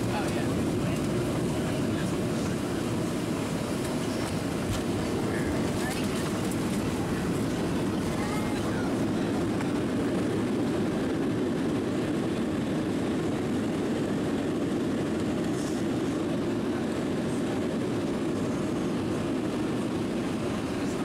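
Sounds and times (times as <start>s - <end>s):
jet cabin roar on runway: 0.0s - 21.0s.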